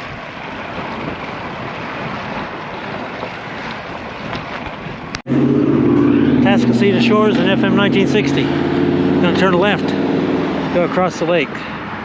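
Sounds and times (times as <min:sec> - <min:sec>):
wind on microphone: 0:00.0 - 0:10.8
road noise: 0:00.0 - 0:12.0.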